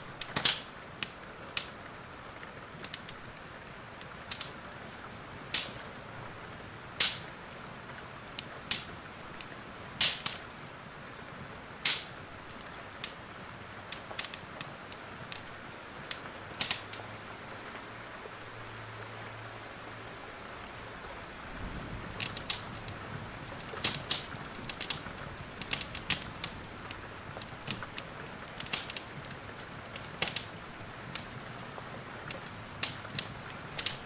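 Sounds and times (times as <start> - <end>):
rain hiss: 0.0 - 34.0
wood fire crackling: 0.0 - 34.0.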